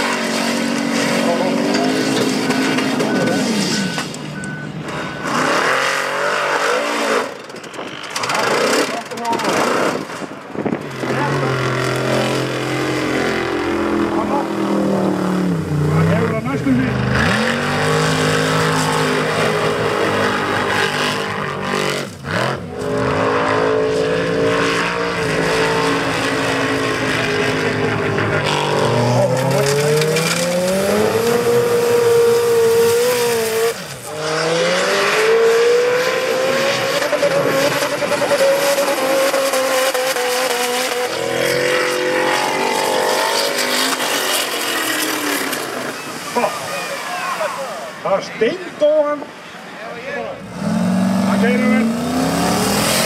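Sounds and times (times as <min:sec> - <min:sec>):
buggy engines revving: 0:00.0 - 0:53.0.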